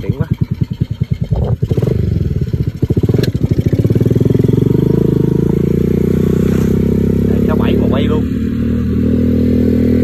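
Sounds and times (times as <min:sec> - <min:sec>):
motorcycle engine pulling away: 0:00.0 - 0:10.0.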